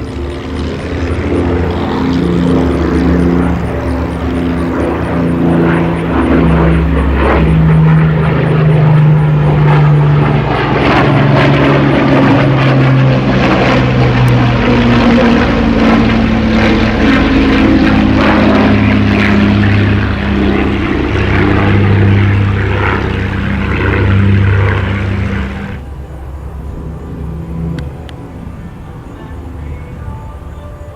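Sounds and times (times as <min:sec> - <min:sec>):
propeller aircraft flying past: 0:00.0 - 0:30.9.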